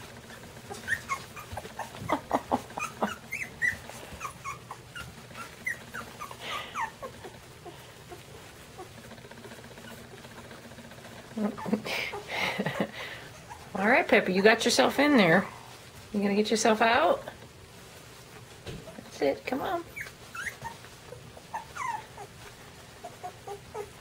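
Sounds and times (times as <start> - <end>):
puppies whimpering: 0.0 - 15.9, 19.8 - 24.0.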